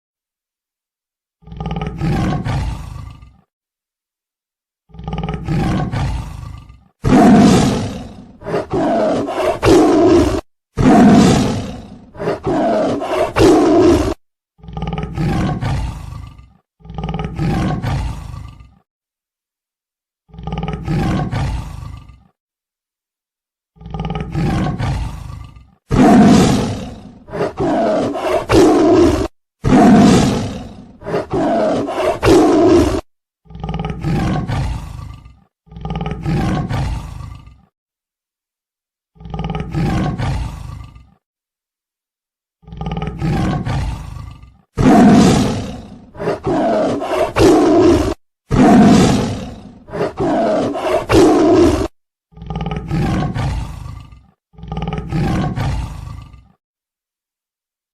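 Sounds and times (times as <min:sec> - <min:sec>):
tiger roaring: 0:01.4 - 0:03.5, 0:04.9 - 0:18.8, 0:20.3 - 0:22.4, 0:23.8 - 0:37.7, 0:39.2 - 0:41.2, 0:42.6 - 0:56.6.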